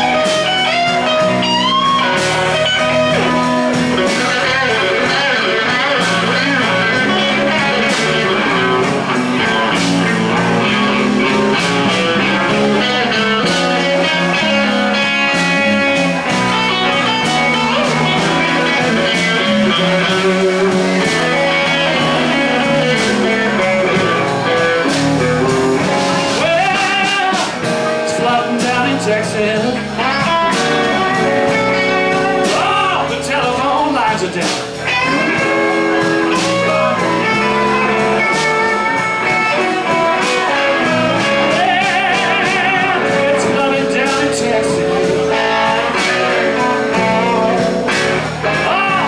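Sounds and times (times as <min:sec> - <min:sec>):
electric blues band playing: 0:00.0 - 0:49.0
lead electric guitar: 0:00.0 - 0:49.0.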